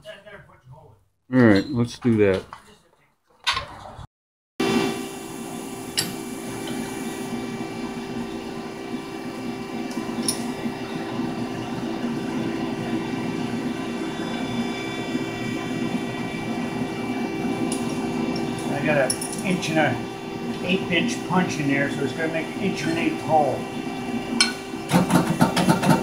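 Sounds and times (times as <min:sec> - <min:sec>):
pump motor humming: 0:04.6 - 0:26.0.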